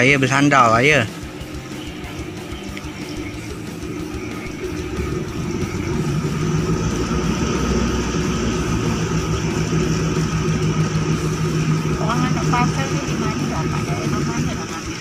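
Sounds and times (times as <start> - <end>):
boat engine rumbling: 0.0 - 15.0
engine hum: 0.0 - 15.0.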